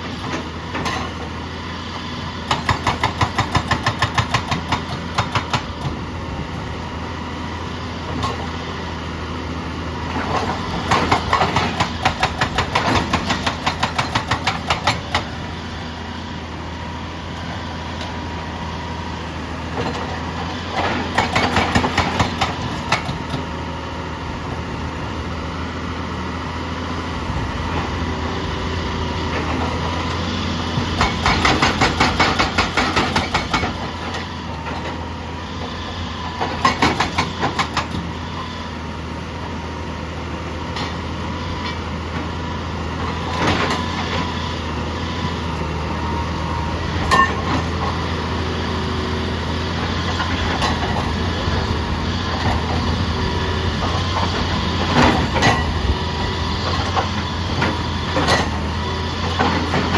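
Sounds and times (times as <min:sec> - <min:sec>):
diesel machinery running: 0:00.0 - 0:59.9.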